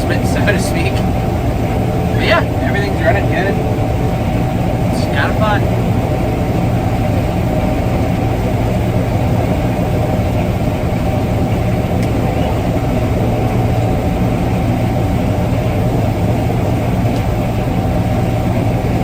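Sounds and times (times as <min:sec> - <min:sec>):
combine engine and machinery drone: 0:00.0 - 0:19.0
faint steady whine: 0:00.0 - 0:19.0.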